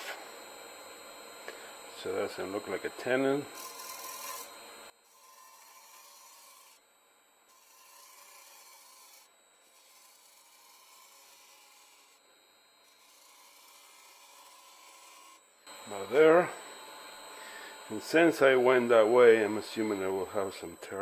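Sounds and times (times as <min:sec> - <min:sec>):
lathe gouge cutting wood: 0:00.0 - 0:06.8, 0:07.5 - 0:12.2, 0:12.8 - 0:20.7.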